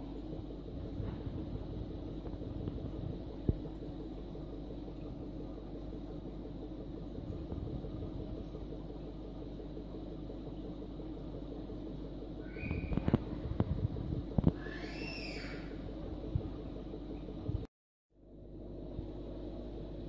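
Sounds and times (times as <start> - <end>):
aquarium pump humming: 0.0 - 20.0.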